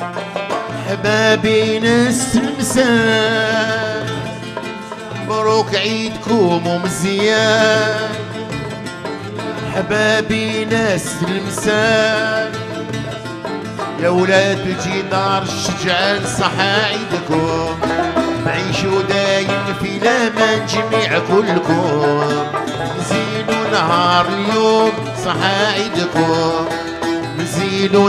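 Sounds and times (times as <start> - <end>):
plucked string folk music with violin: 0.0 - 28.0.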